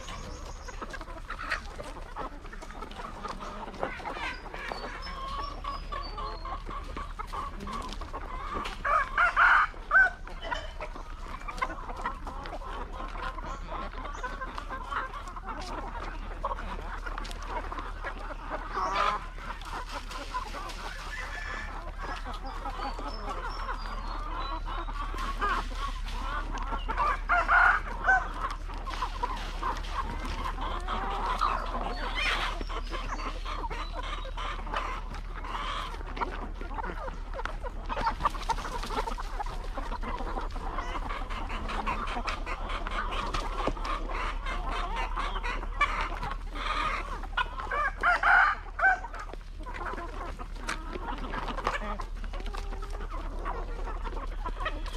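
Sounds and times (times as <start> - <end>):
hens clucking: 0.0 - 54.9
loud hen calls: 0.0 - 54.9.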